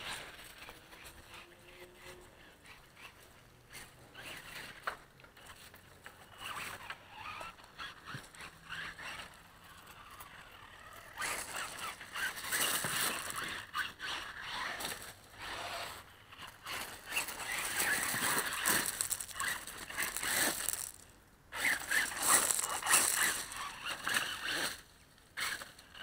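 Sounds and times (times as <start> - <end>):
gravel crunching under tyres: 2.9 - 26.0.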